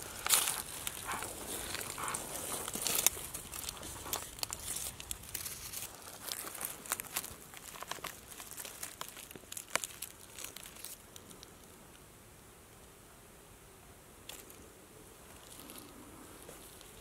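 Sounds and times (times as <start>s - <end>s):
dry leaves and twigs crackling: 0.0s - 12.0s, 14.2s - 17.0s.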